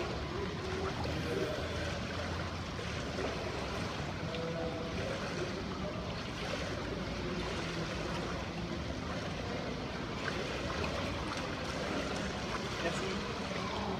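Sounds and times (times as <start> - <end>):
steady water noise: 0.0 - 13.9
water sloshing and dripping: 0.0 - 13.9.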